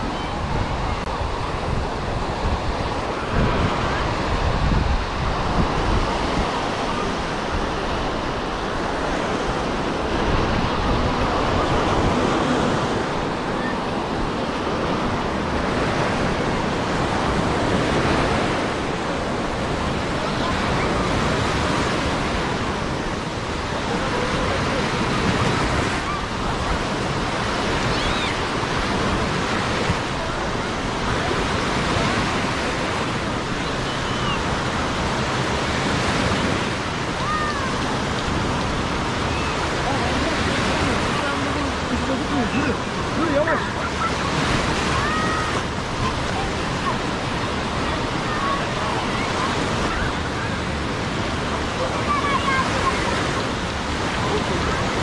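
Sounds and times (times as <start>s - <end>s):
sea waves washing onto beach: 0.0s - 55.0s.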